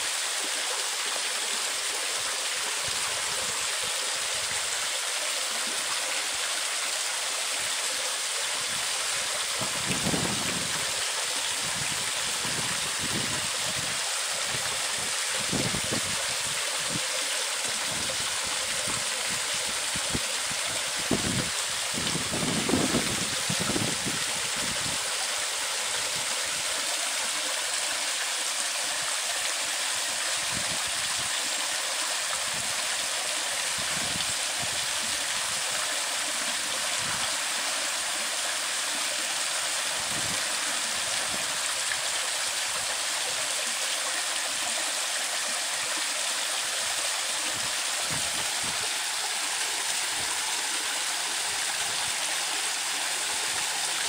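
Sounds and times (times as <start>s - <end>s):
water pouring into canal: 0.0s - 54.0s.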